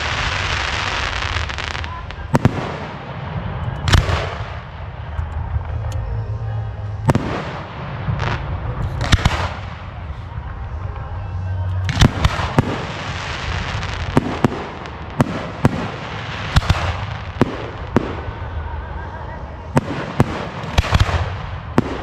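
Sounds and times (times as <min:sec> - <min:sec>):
fireworks bursting: 0:00.0 - 0:22.0
steady low rumble: 0:00.0 - 0:22.0.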